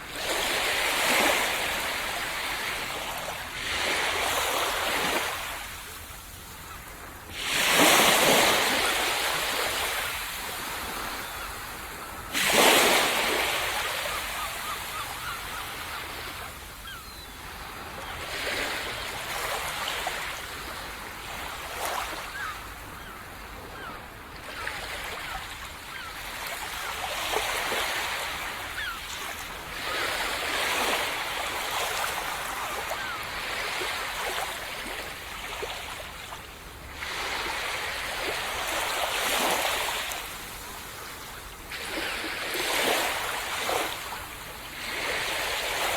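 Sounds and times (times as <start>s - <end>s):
small waves breaking on beach: 0.0s - 45.9s.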